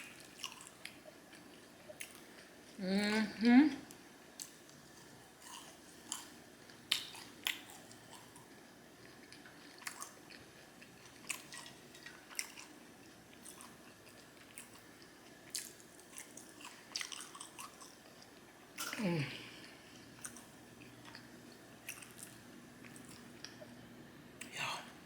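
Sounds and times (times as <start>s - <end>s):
person chewing food: 0.0s - 2.8s, 3.8s - 23.8s.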